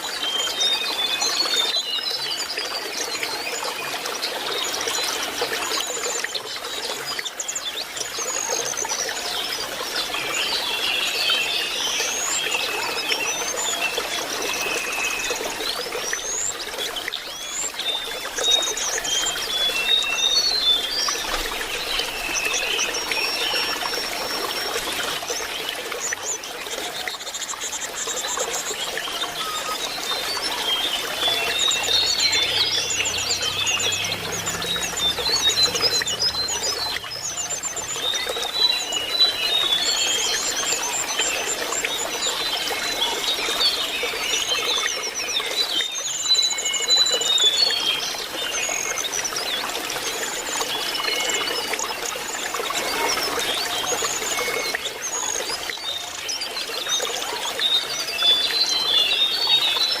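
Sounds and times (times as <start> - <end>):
bird song high chirps and trills: 0.0 - 60.0
trickling water: 0.0 - 60.0.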